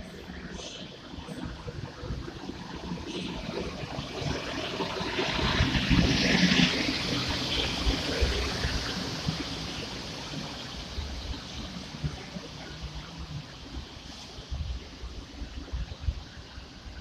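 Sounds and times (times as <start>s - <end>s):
electric locomotive passing: 0.0s - 17.0s
wheels rumbling on rail: 0.0s - 17.0s.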